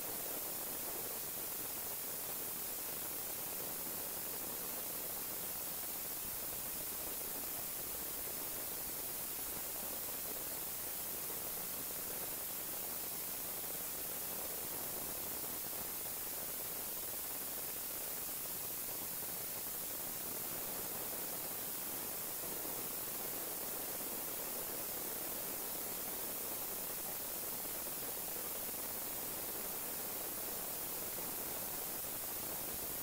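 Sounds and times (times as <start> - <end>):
steady static hiss: 0.0 - 33.0.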